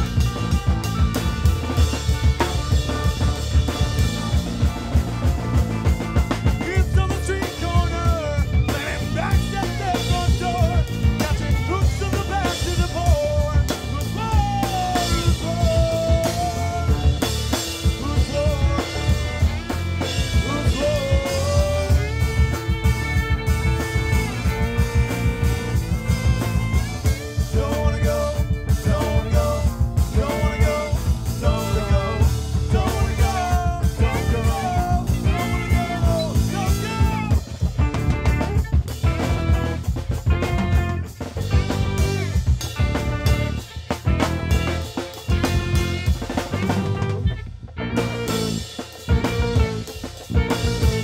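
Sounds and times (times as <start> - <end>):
drum kit beat: 0.0 - 51.0
live band playing: 0.0 - 51.0.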